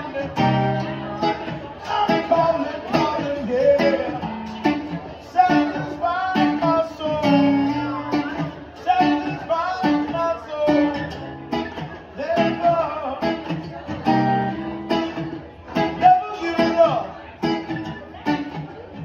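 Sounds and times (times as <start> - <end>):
man singing: 0.0 - 14.2, 15.8 - 17.2
acoustic guitar strumming: 0.0 - 19.0.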